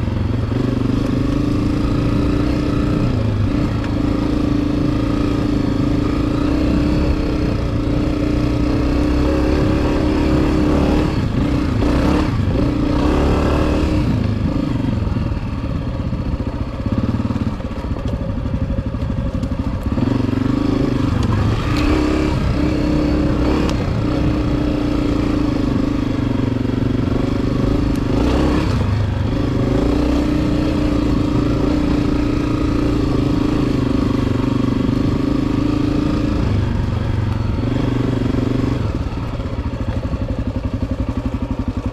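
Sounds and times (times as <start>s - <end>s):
motorcycle engine under throttle: 0.0s - 41.9s.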